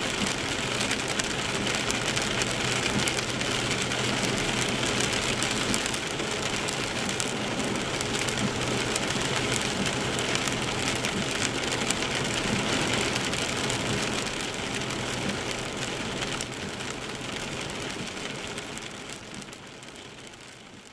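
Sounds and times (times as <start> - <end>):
rain hitting a moving car: 0.0 - 20.9.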